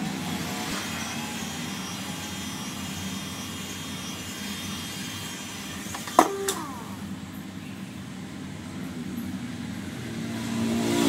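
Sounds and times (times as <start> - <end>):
heat gun fan hum: 0.0 - 9.4.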